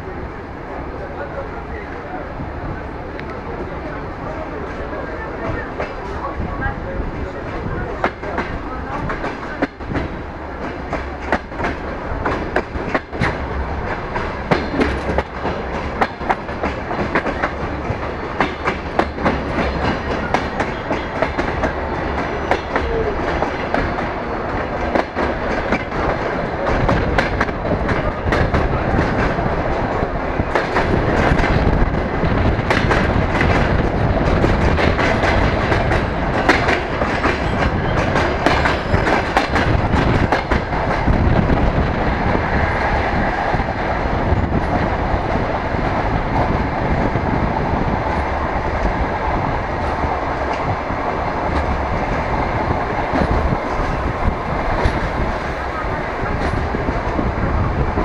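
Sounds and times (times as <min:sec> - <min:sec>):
train rumble: 0:00.0 - 0:58.0
wheels clicking over rail joints: 0:07.5 - 0:57.2.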